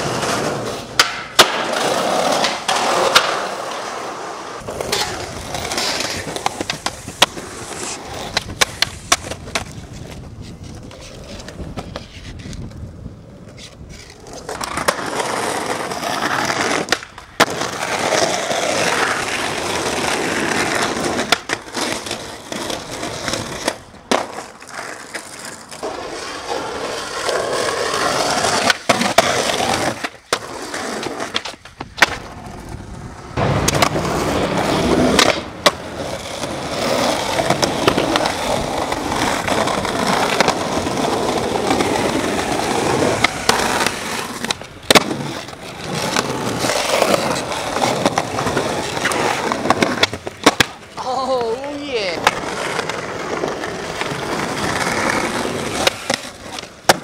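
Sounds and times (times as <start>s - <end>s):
skateboard clacks: 0.0s - 57.0s
skateboard wheels rolling on asphalt: 0.0s - 57.0s.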